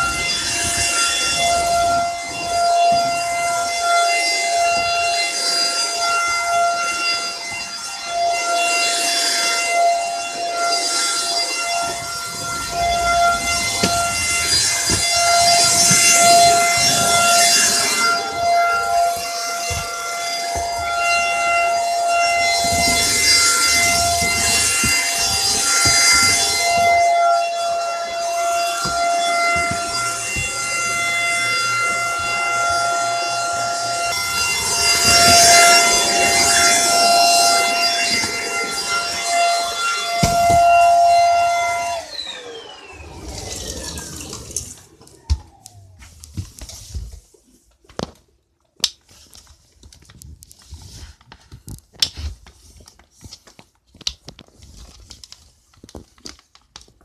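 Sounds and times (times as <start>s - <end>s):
vacuum cleaner motor whine: 0.0s - 47.2s.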